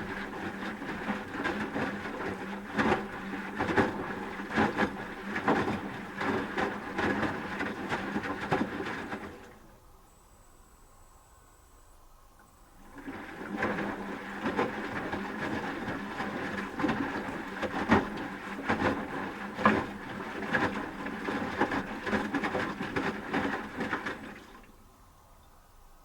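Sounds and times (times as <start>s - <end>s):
water sloshing: 0.0s - 9.8s, 12.8s - 24.9s.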